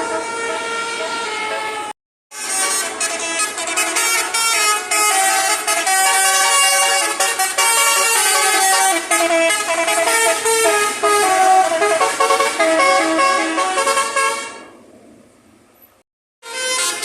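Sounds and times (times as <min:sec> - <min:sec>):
multi-tone vehicle horn tune: 0:00.0 - 0:14.7, 0:16.4 - 0:17.0.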